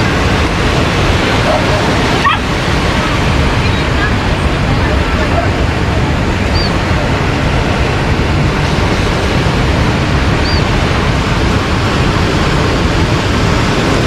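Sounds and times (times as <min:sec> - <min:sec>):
ocean surf washing ashore: 0:00.0 - 0:14.0
wind on microphone: 0:00.0 - 0:14.0.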